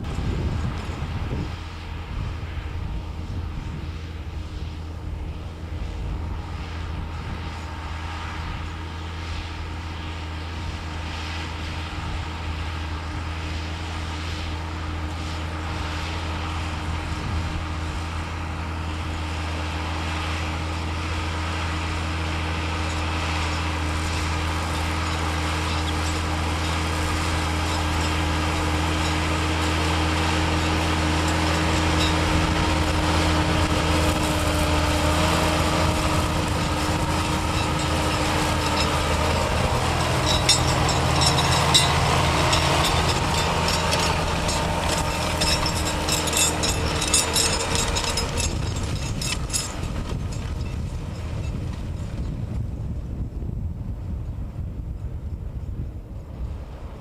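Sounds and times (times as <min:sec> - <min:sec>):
tractor diesel engine under load: 0:00.0 - 0:54.5.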